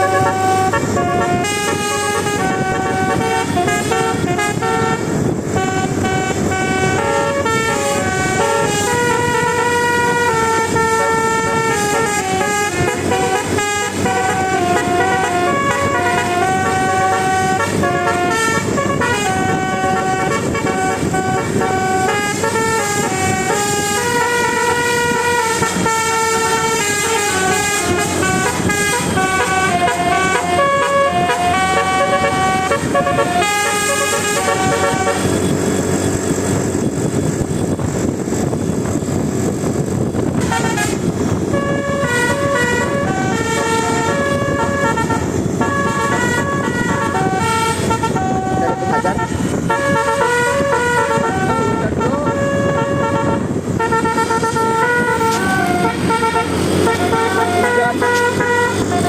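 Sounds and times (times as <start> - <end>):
multi-tone musical bus horn: 0.0 - 59.0
steady rumble: 0.0 - 59.0.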